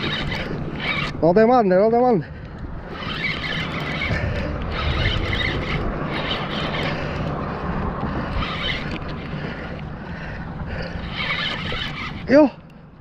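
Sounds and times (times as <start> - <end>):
fishing reel cranking: 0.0 - 2.0, 2.8 - 7.4, 8.1 - 9.7, 10.7 - 12.8
steady low rumble: 0.0 - 11.4
wind buffeting microphone: 0.0 - 13.0.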